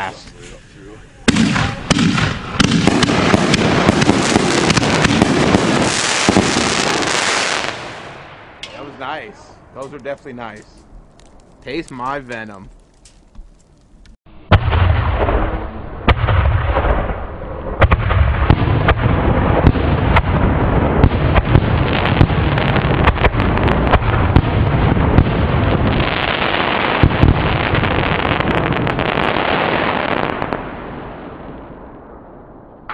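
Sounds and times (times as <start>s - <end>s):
firework crackling pops: 1.3s - 9.0s, 9.8s - 15.5s, 17.8s - 30.7s.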